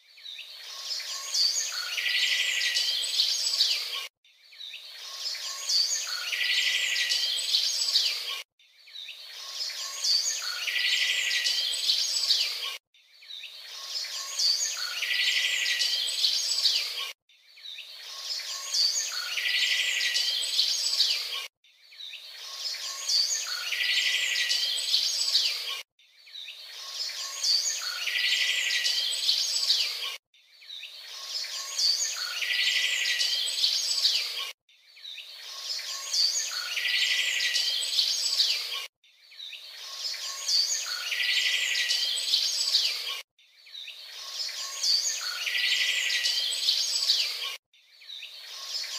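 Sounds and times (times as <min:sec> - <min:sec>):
birds chirping: 0:00.2 - 0:48.9.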